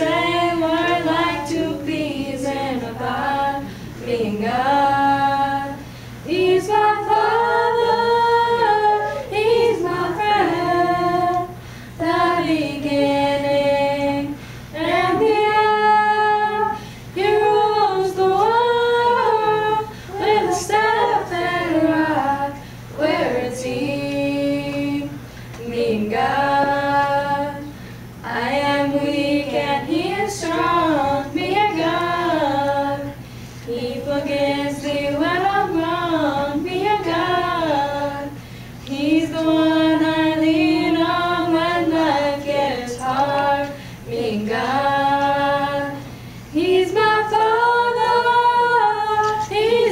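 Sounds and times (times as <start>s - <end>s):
choir singing a cappella: 0.0s - 49.9s.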